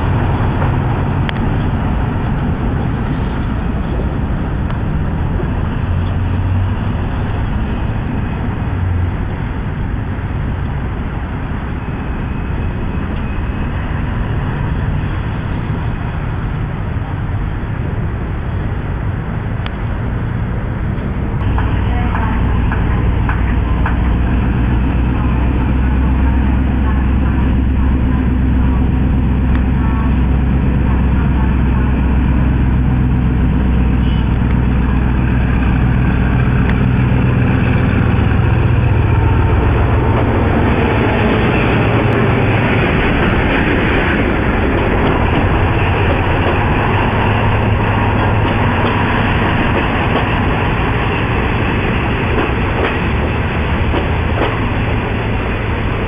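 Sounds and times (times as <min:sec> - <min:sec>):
diesel locomotive engine drone: 0:00.0 - 0:56.0
train wheels rumbling on rails: 0:00.0 - 0:56.0.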